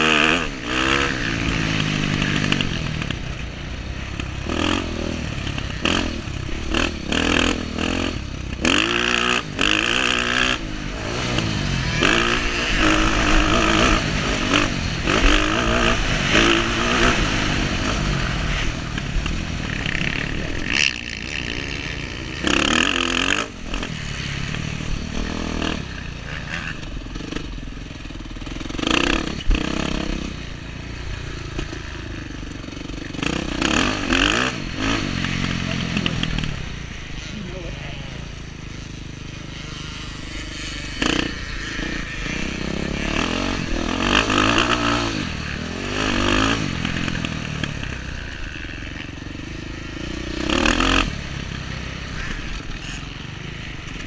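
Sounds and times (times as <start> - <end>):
dirt bike engine revving: 0.0 - 54.0
rush of noise: 0.0 - 54.0.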